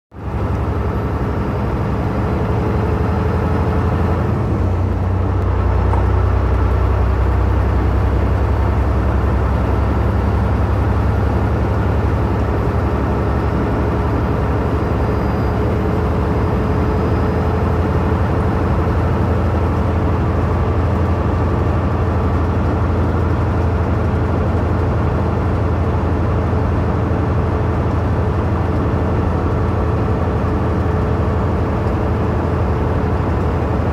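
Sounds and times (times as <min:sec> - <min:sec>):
truck engine drone: 0:00.1 - 0:33.9
tyre and road noise: 0:00.2 - 0:33.9.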